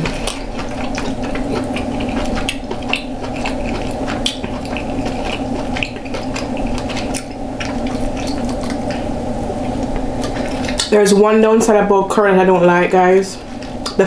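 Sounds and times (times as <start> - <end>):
wet chewing: 0.0 - 11.8, 13.4 - 14.0
steady low hum: 0.0 - 14.0.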